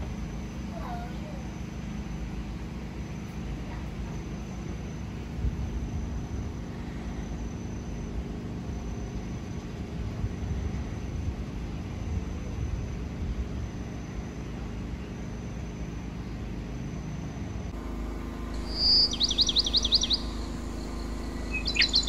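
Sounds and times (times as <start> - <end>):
faint hum: 0.0 - 22.0
motor rumbling: 0.0 - 22.0.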